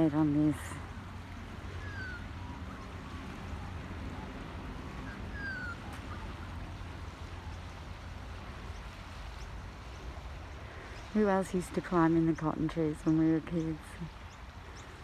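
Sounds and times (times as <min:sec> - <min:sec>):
water washing on beach: 0:00.0 - 0:15.0
wind: 0:00.0 - 0:15.0.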